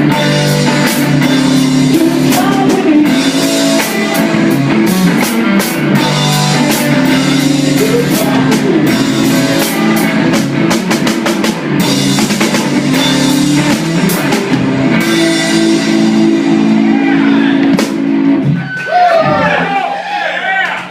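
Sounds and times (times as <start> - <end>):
drum kit: 0.0 - 19.8
bass guitar: 0.0 - 20.2
guitar: 0.0 - 20.9.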